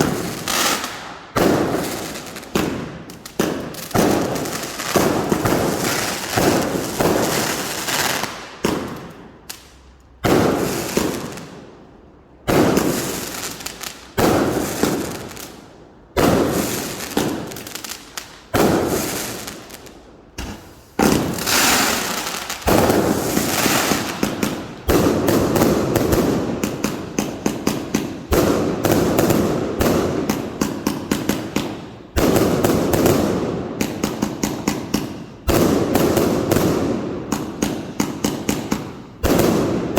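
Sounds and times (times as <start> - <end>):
fireworks banging: 0.0 - 11.6, 12.4 - 39.9.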